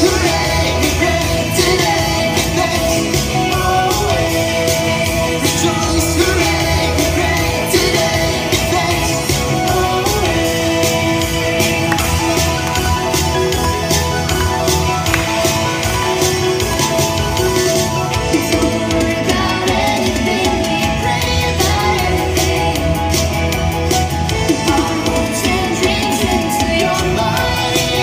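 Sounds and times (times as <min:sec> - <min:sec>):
song with sung vocal and beat: 0:00.0 - 0:28.0.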